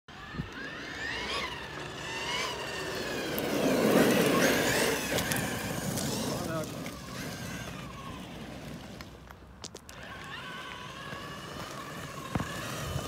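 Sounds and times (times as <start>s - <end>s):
electric motor whining: 0.1s - 9.1s, 9.7s - 13.0s
tyres scrabbling on gravel: 1.0s - 13.0s.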